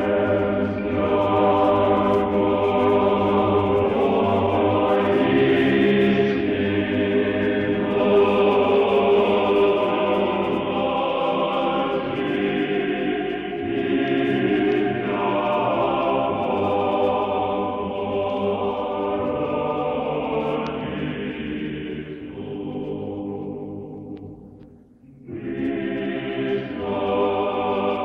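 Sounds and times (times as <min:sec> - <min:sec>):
church choir singing: 0:00.0 - 0:28.0.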